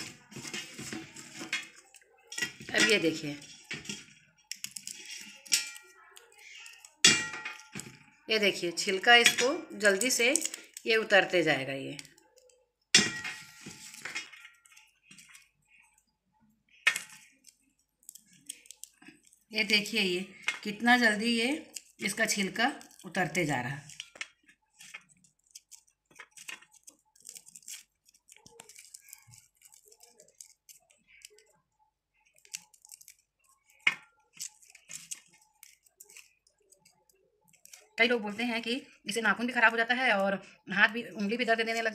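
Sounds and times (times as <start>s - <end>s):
garlic skins crackling: 0.0s - 12.5s, 16.8s - 31.6s, 32.2s - 41.9s.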